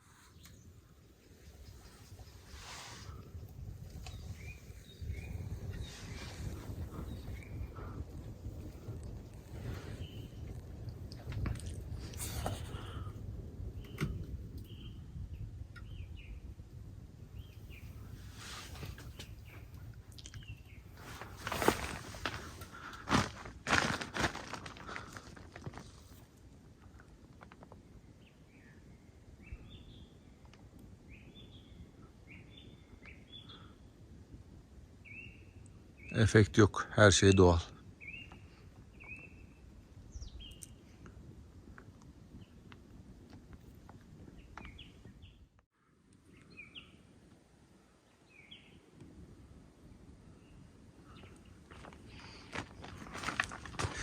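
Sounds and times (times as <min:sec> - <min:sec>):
low wind rumble: 0:00.0 - 0:45.6, 0:46.2 - 0:54.0.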